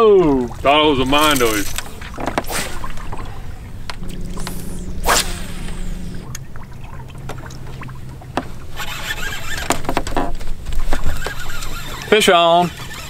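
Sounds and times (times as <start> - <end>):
boat motor humming: 0.0 - 13.0
water splashing: 0.0 - 13.0.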